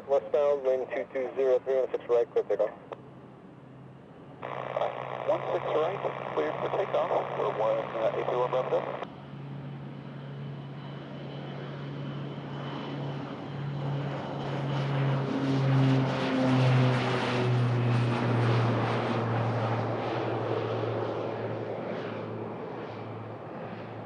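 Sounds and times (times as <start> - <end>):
aircraft taking off: 0.0 - 24.0.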